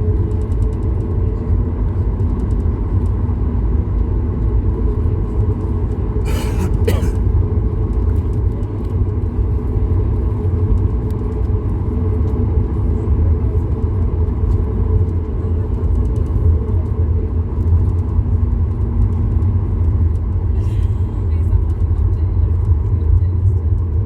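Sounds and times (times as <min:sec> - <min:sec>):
aircraft cabin engine drone: 0:00.0 - 0:24.0.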